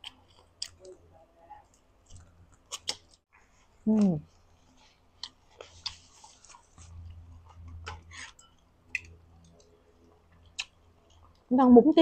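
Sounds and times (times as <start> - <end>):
wet chewing of food: 1.7 - 11.5.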